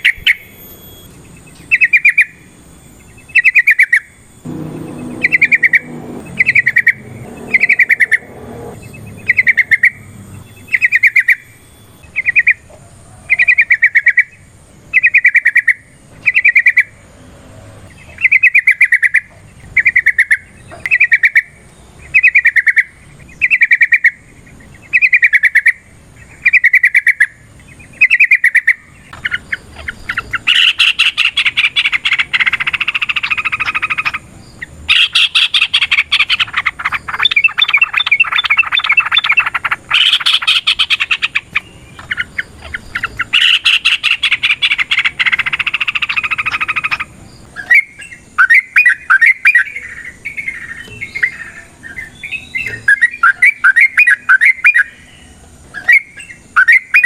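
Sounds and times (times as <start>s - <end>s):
bird singing bubbly phrases: 0.0s - 12.7s, 13.3s - 17.1s, 17.9s - 57.0s.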